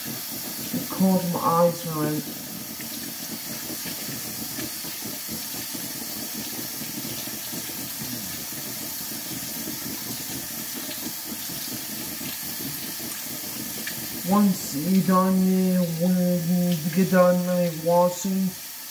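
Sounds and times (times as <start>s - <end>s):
faucet running into steel sink: 0.0s - 18.9s.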